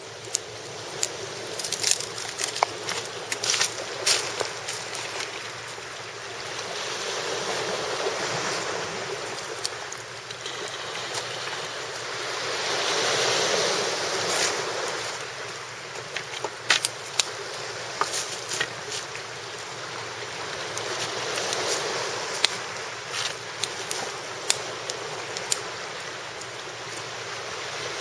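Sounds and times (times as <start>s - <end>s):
sea waves washing on shore: 0.0s - 28.0s.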